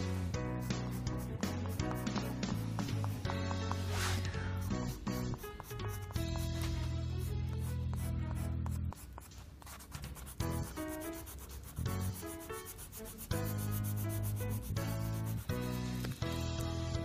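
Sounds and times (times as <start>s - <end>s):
crayon scribbling on paper: 0.0s - 16.5s
light background music: 0.0s - 17.0s.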